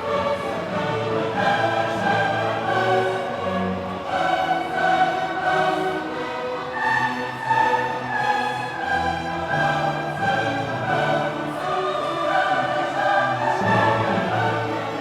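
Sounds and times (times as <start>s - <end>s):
orchestra with choir voices: 0.0s - 15.0s.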